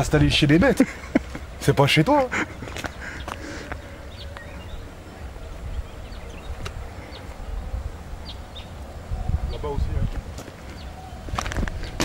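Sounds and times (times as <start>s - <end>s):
birds chirping faintly: 0.0s - 12.0s
steady low rumble: 0.0s - 12.0s.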